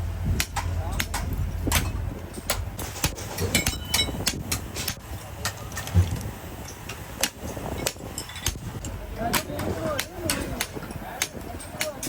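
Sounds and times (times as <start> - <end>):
low machine rumble: 0.0 - 12.0
metal knocks and clanks: 0.4 - 12.0.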